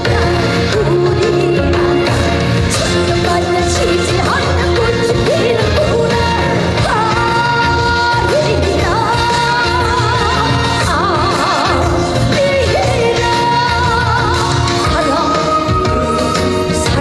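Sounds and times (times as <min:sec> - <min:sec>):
band playing a steady beat: 0:00.0 - 0:17.0
woman singing with vibrato: 0:00.0 - 0:17.0.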